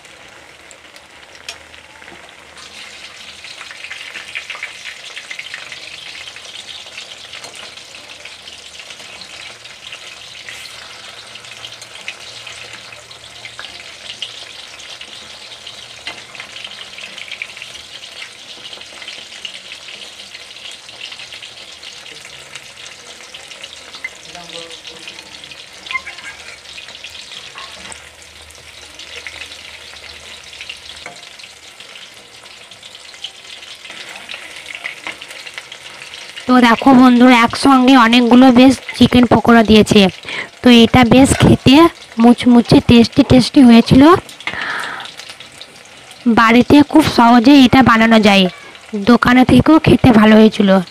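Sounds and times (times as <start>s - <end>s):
deep-frying crackling sizzle: 0.0s - 50.9s.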